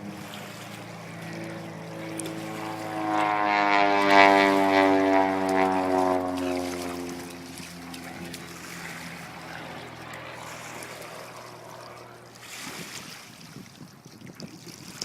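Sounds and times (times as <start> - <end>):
propeller aircraft engine drone: 0.0 - 15.0
wind buffeting microphone: 0.0 - 15.0.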